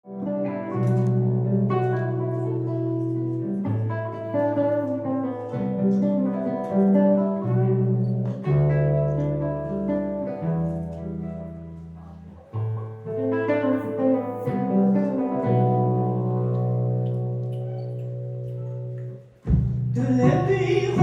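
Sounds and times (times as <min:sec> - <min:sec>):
guitar plucking notes: 0:00.0 - 0:21.0
held low notes: 0:00.2 - 0:21.0.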